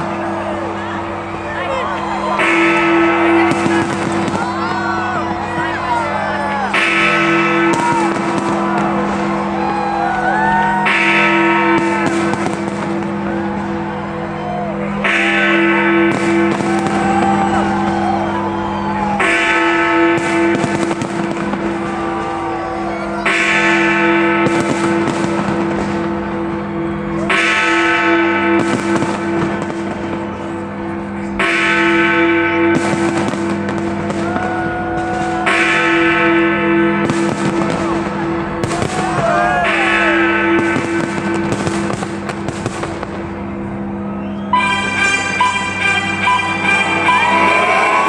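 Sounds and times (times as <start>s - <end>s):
fireworks banging and crackling: 0.0s - 14.0s, 15.0s - 43.6s
large bell tolling: 0.0s - 48.0s.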